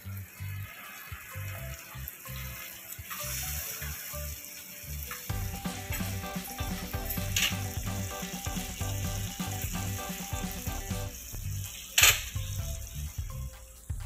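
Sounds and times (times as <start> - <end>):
fish sizzling in hot oil: 0.0 - 13.9
oil crackling: 0.0 - 14.0.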